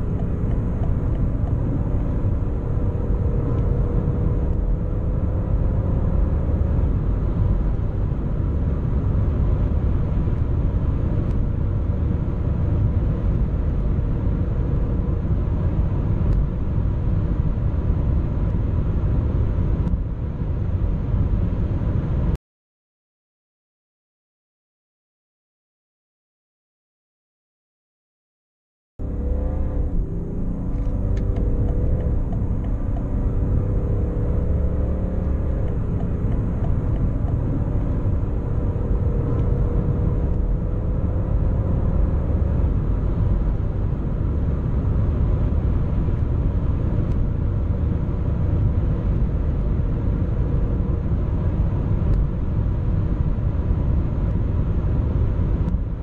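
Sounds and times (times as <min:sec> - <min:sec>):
car engine accelerating: 0:00.0 - 0:22.3, 0:29.0 - 0:56.0
road and wind noise: 0:00.0 - 0:22.4, 0:29.0 - 0:56.0.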